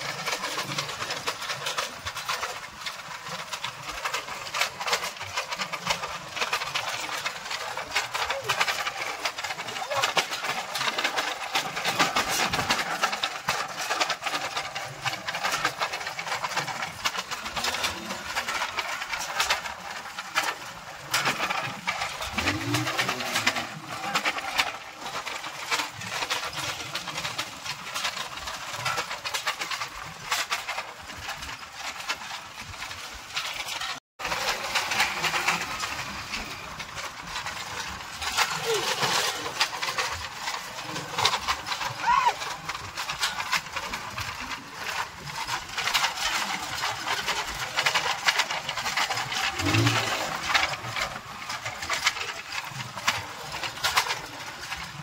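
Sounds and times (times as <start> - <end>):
cart wheels rattling and clattering: 0.0 - 55.0.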